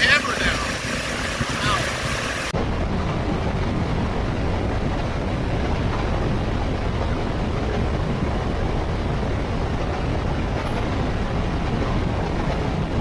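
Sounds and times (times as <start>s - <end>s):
wind rushing past: 0.0s - 13.0s.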